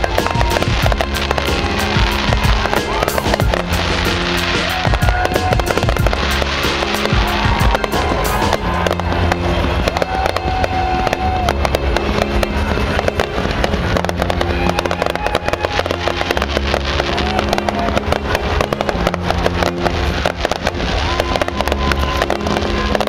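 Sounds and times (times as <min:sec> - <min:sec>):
fireworks bursting and crackling: 0:00.0 - 0:23.0
loud music with bass line: 0:00.0 - 0:23.0.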